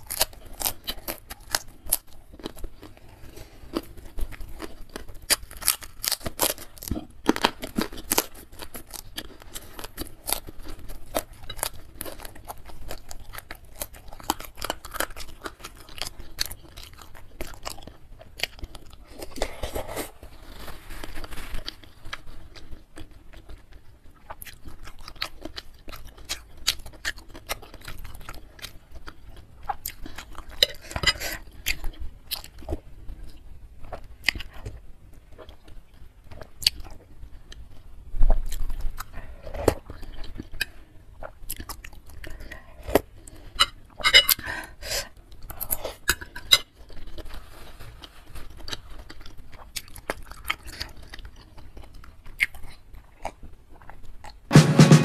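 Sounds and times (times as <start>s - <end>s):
close chewing with smacks: 0.0s - 20.4s, 21.0s - 54.5s.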